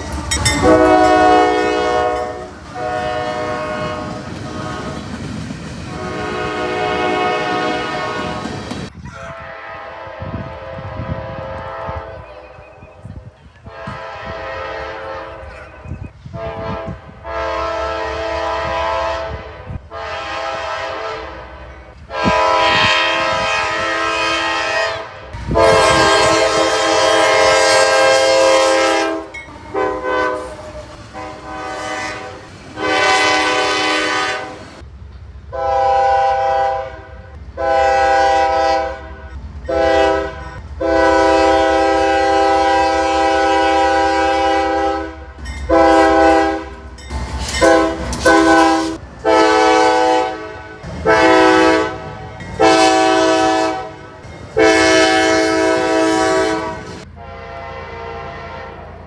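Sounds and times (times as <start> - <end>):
locomotive air horn blasts: 0.0 - 5.2, 5.9 - 12.5, 13.6 - 34.8, 35.5 - 59.0
low train rumble: 0.0 - 59.0.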